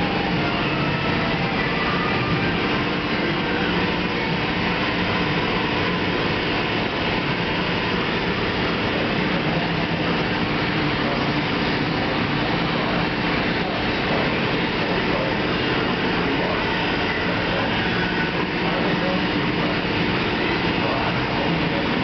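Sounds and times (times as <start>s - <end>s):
extraction fan: 0.0s - 22.0s.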